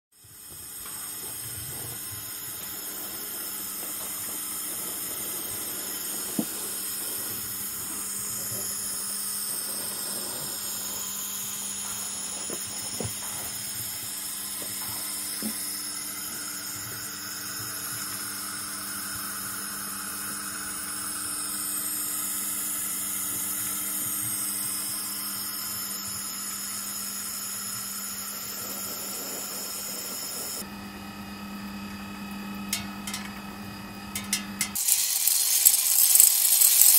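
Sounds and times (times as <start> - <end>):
coffee roaster hiss and hum: 0.1 - 36.9.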